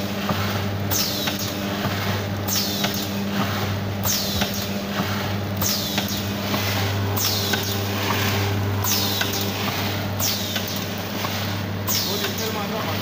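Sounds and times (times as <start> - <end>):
packing machine humming: 0.0 - 13.0.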